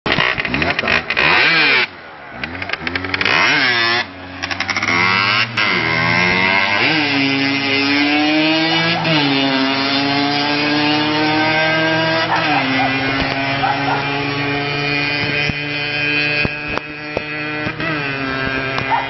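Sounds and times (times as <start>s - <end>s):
small motorcycle engine revving: 0.1s - 19.0s.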